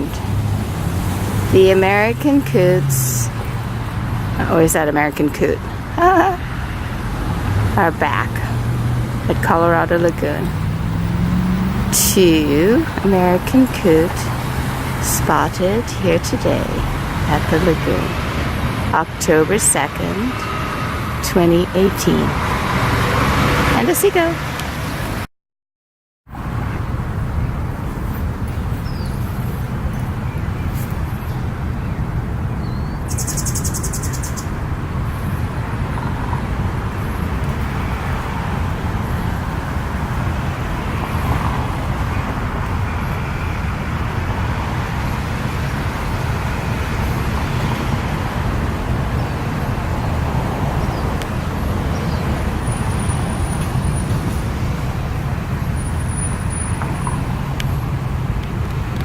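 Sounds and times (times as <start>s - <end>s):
steady outdoor rumble and hiss: 0.0s - 25.2s, 26.3s - 59.0s.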